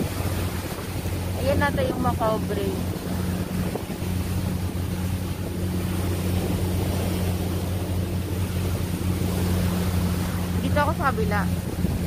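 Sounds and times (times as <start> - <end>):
boat engine drone: 0.0 - 12.0
wind and water rushing: 0.0 - 12.0.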